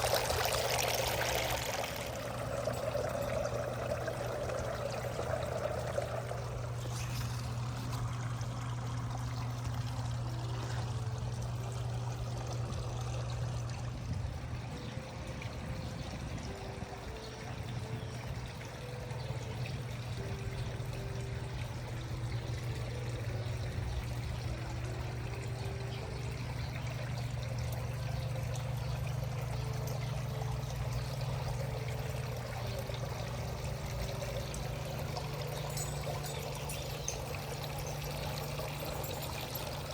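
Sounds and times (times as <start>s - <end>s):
water running: 0.0s - 39.9s.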